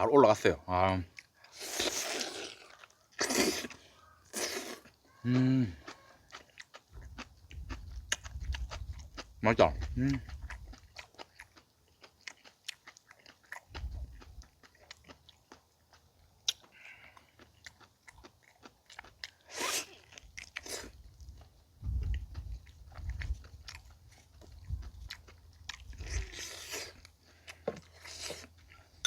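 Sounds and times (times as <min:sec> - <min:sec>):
wet chewing and lip smacks: 0:01.0 - 0:29.0.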